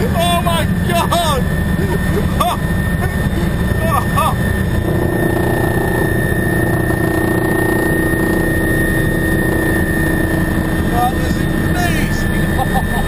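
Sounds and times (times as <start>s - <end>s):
helicopter drone inside cabin: 0.0s - 13.0s.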